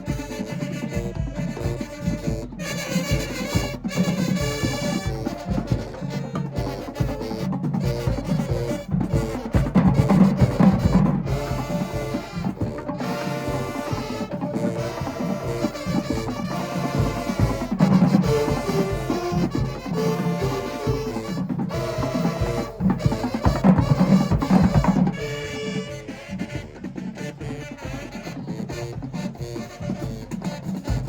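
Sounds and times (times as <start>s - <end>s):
drumline percussion: 0.0s - 31.0s
marching band brass chords: 0.0s - 31.0s.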